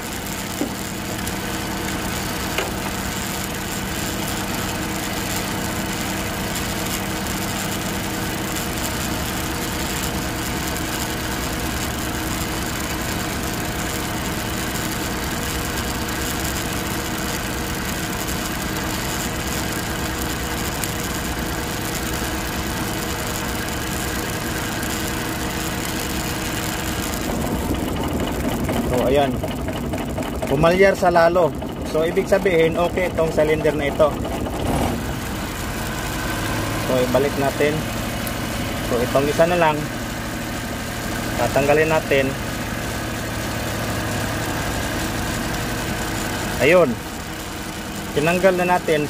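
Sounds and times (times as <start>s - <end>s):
engine idling with misfire: 0.0s - 49.0s.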